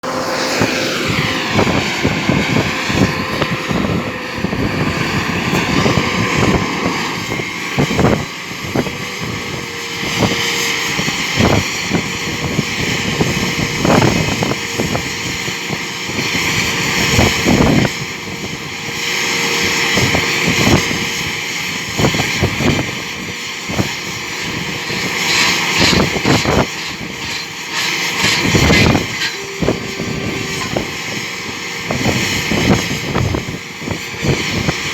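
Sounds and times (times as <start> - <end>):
rock drilling rig engine drone: 0.0 - 34.9.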